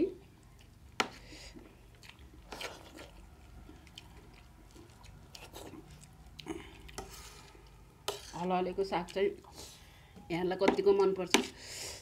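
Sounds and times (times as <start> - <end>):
faint chewing and mouth sounds: 0.2 - 10.1.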